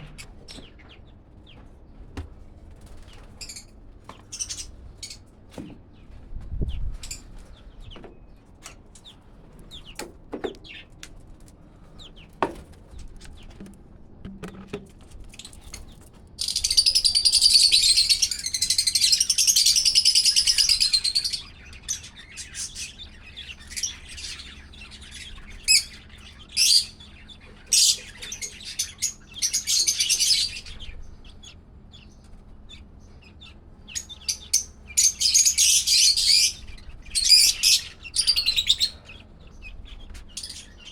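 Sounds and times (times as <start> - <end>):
parrots chirping and chattering: 0.0 - 1.6, 2.8 - 6.1, 6.8 - 11.0, 15.3 - 40.9.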